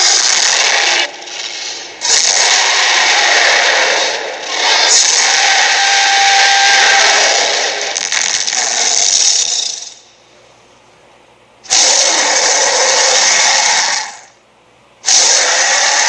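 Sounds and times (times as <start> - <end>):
cartoon mechanical whir: 0.0 - 10.0, 11.7 - 14.3, 15.0 - 16.0.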